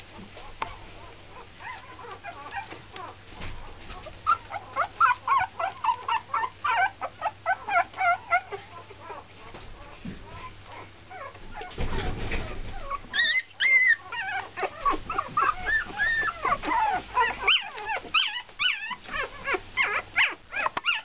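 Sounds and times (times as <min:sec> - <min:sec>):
puppies whimpering: 0:00.4 - 0:21.0.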